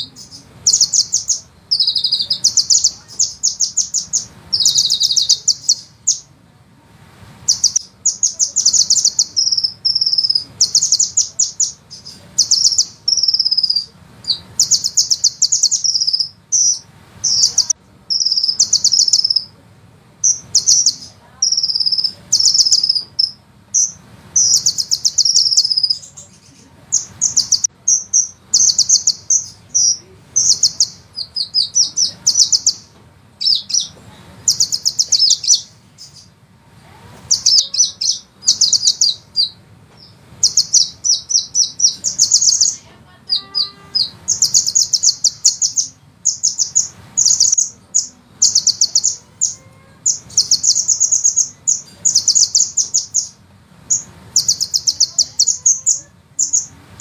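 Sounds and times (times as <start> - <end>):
bird high-pitched rolling trills: 0.0 - 6.4, 7.4 - 19.6, 20.2 - 36.4, 37.0 - 57.0
faint low hum: 0.0 - 57.0.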